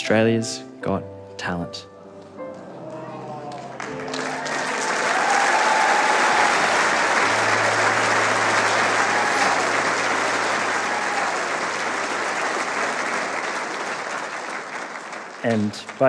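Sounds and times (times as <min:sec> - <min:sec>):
audience applauding: 0:02.5 - 0:16.0.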